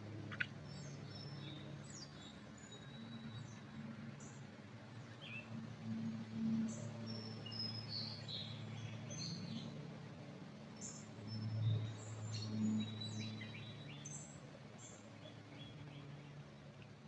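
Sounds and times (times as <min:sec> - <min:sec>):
songbirds chirping and twittering: 0:00.0 - 0:17.0.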